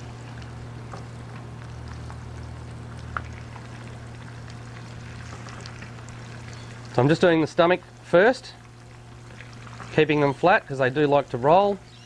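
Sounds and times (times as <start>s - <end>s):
low hum: 0.0s - 10.1s
fish sizzling in hot oil: 0.0s - 10.9s.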